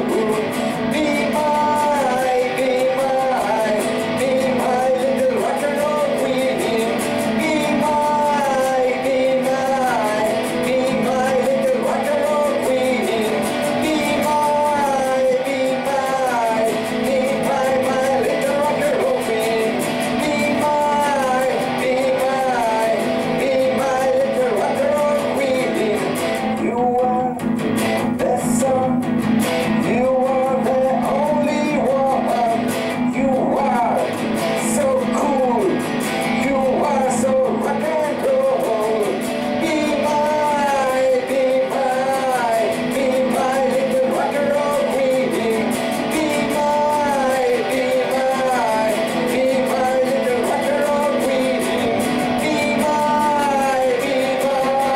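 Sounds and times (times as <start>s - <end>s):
electric guitar strumming: 0.0s - 54.9s
man singing rock song: 0.0s - 54.9s.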